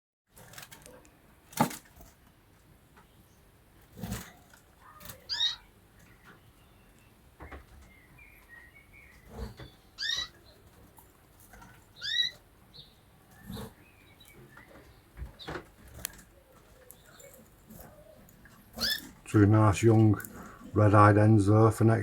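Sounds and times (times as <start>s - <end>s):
canaries chirping: 3.0s - 22.0s.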